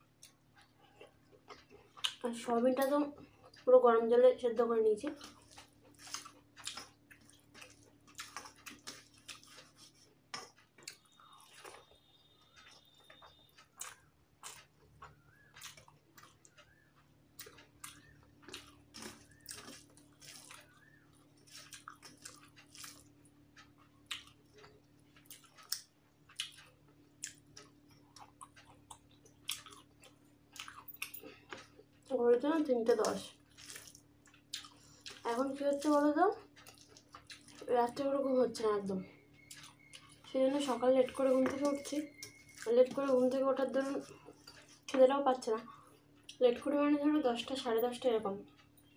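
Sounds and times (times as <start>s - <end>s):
wet chewing and lip-smacking: 0.0s - 3.7s, 5.0s - 46.7s
low steady hum: 0.0s - 48.9s
fingers mixing food on metal plate: 0.2s - 48.9s.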